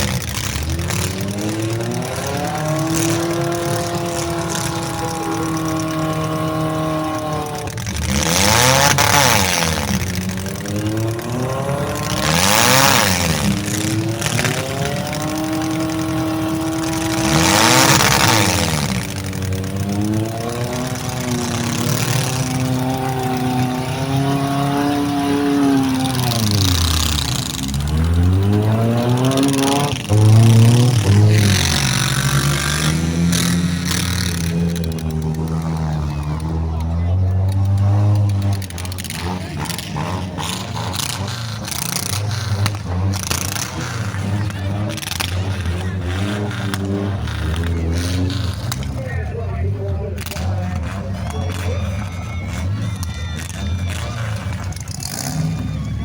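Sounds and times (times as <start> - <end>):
car engines running hard: 0.0 - 56.0.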